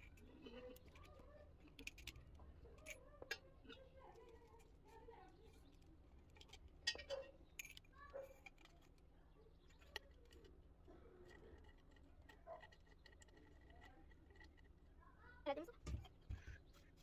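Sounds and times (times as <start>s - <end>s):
faint clicks and taps of metal hoses: 0.0s - 14.9s.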